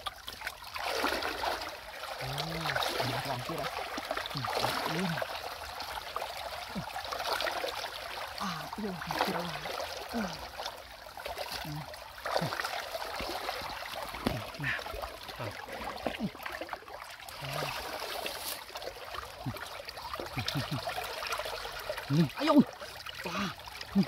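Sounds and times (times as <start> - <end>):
shallow water trickling and gurgling: 0.0 - 24.0.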